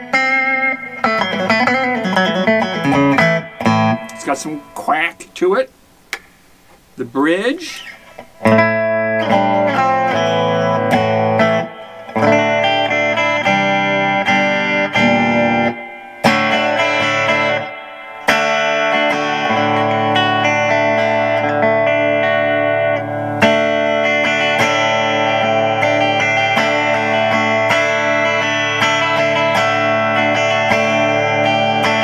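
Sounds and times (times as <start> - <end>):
electric guitar strummed chords: 0.0 - 32.0.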